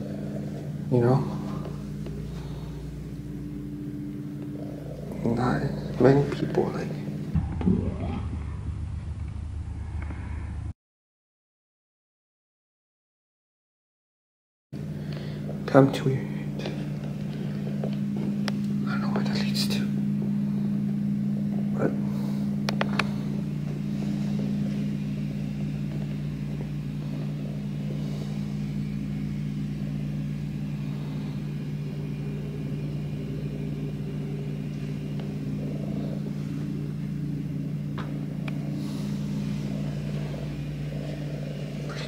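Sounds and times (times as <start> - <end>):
steady low hum: 0.0 - 10.8, 14.8 - 42.0.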